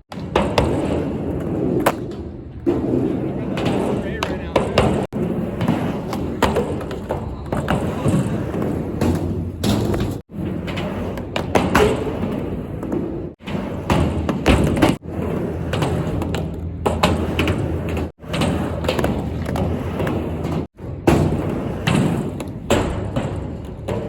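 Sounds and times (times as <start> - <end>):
skateboard thumping on ramp: 0.0 - 24.0
skateboard wheels rolling: 0.0 - 24.0.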